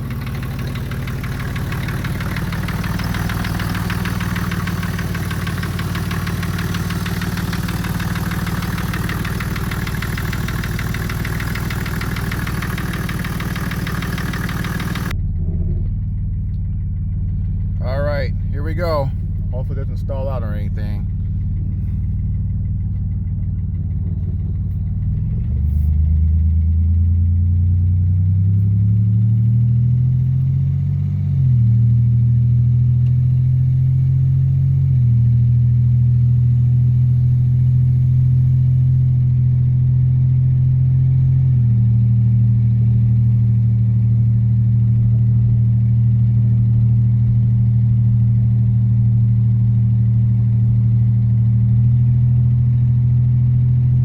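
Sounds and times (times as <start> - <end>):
car engine accelerating: 0.0 - 54.0
loud exhaust: 0.0 - 54.0.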